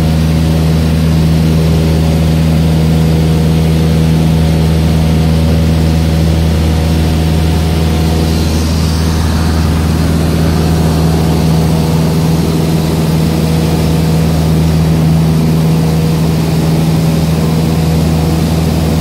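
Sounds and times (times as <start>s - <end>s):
light aircraft engine drone: 0.0s - 19.0s.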